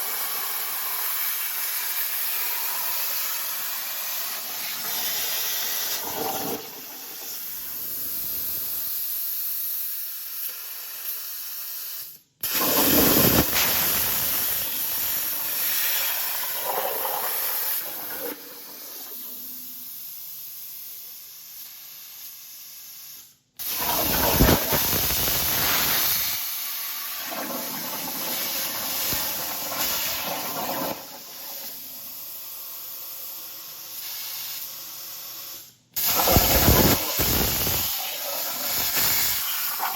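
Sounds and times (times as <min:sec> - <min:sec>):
plasma cutter hissing: 0:00.0 - 0:27.3, 0:27.9 - 0:39.9.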